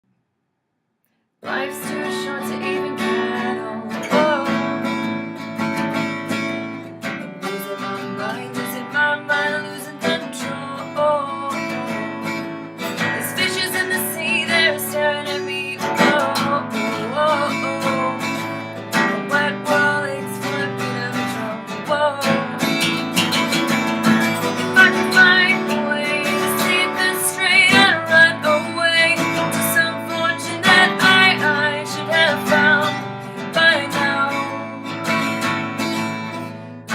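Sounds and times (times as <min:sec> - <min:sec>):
acoustic guitar strummed and picked: 0:01.4 - 0:36.9.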